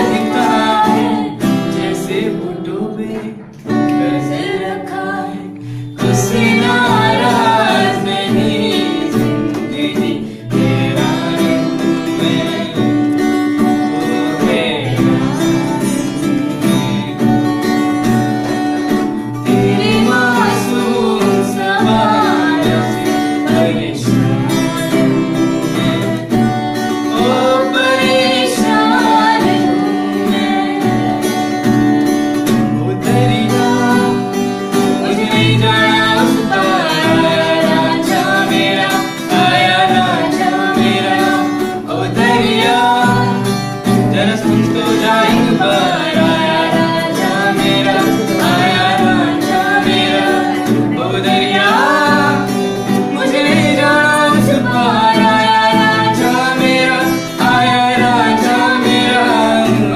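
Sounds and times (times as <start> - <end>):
woman singing: 0.0 - 17.9, 19.4 - 31.6, 32.6 - 59.9
strummed acoustic guitar: 0.0 - 59.9.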